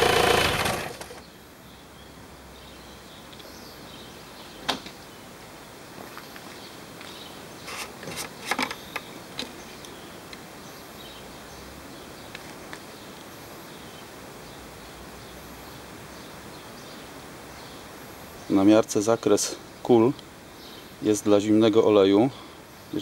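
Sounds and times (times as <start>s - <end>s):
steady low hiss: 0.0s - 23.0s.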